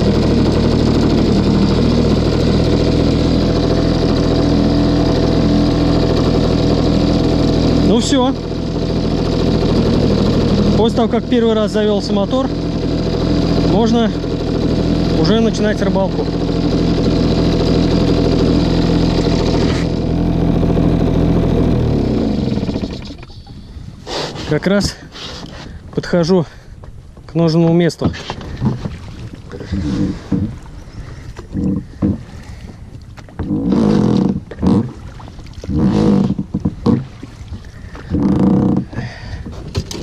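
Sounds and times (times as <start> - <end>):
outboard motor running: 0.0 - 40.0.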